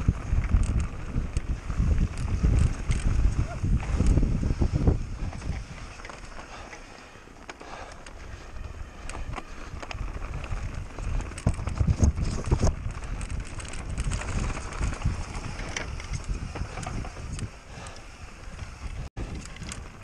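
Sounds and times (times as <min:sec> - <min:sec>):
wind on microphone: 0:00.0 - 0:06.6, 0:07.7 - 0:20.0
bike tyre rumble: 0:00.0 - 0:20.0.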